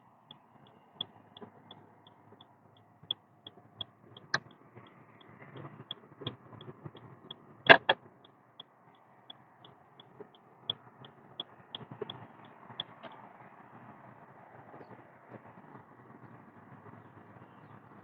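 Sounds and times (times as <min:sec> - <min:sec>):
faint road rumble: 0:00.0 - 0:18.0.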